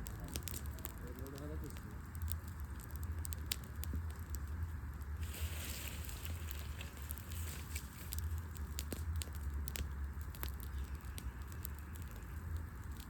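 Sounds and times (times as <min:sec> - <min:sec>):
low steady rumble: 0:00.0 - 0:13.0
wood fire crackling: 0:00.0 - 0:13.0.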